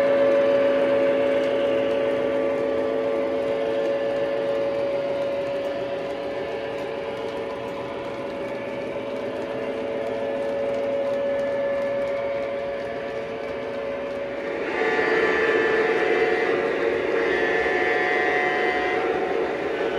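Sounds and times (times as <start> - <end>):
steady mechanical hum: 0.0 - 19.9.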